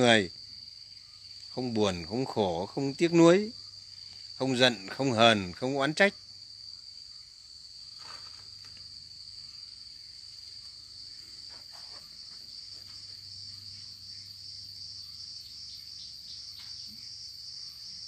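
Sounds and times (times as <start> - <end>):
insects singing: 0.0 - 18.0
pulsing insect chirp: 0.0 - 18.0.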